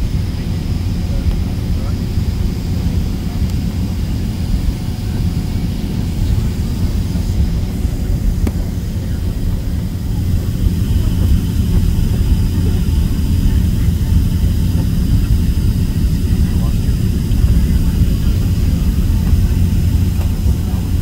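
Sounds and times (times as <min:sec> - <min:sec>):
low rumble of jet engines: 0:00.0 - 0:21.0.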